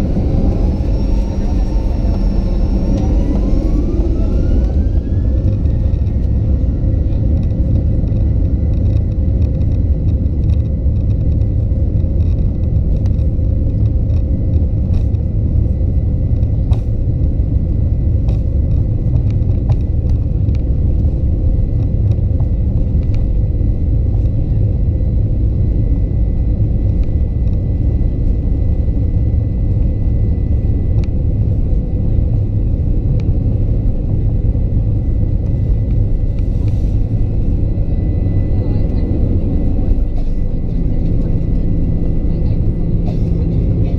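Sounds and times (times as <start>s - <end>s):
jet engine rumble and whine: 0.0s - 43.9s.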